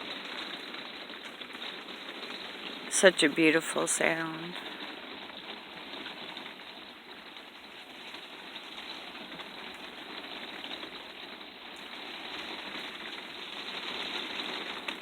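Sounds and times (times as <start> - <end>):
rain on a vehicle roof: 0.0 - 15.0.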